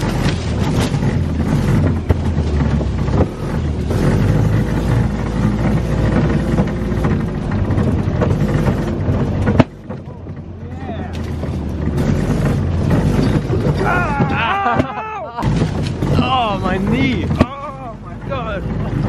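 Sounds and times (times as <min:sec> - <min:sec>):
corn stalks crashing against cart: 0:00.0 - 0:10.1, 0:11.1 - 0:17.8
golf cart rumbling: 0:00.0 - 0:19.0.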